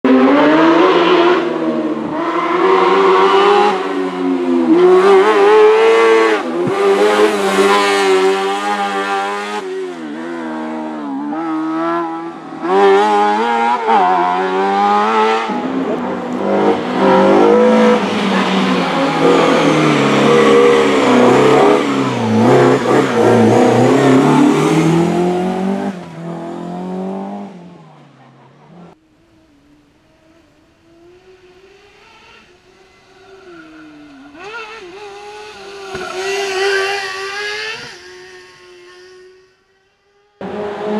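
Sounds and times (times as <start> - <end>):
car engines revving hard: 0.1 - 29.0, 30.8 - 39.4, 40.2 - 40.9.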